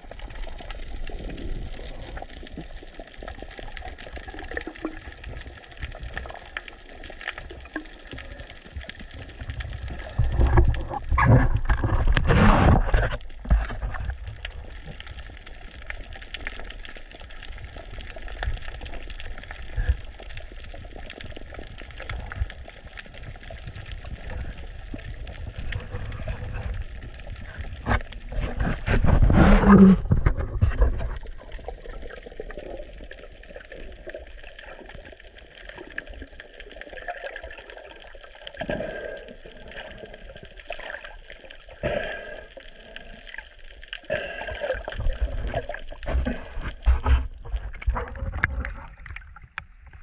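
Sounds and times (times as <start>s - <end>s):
gurgling rush of bubbles: 0.0s - 50.0s
muffled underwater rumble: 0.0s - 50.0s.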